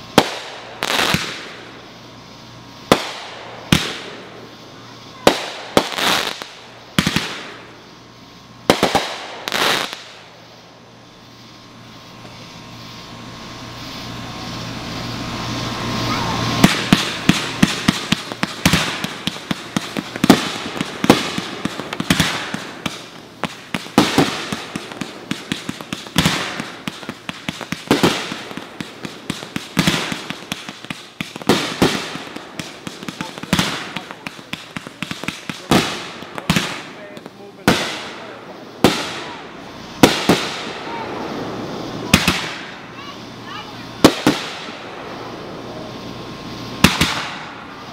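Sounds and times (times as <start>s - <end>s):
firework rising hiss: 0.0s - 47.9s
fireworks bangs and crackles: 0.0s - 47.9s.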